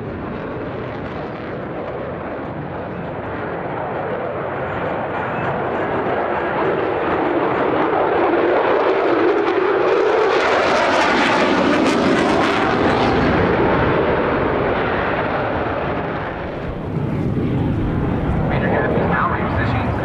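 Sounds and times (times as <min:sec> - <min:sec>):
jet engine roaring past: 0:00.0 - 0:20.0.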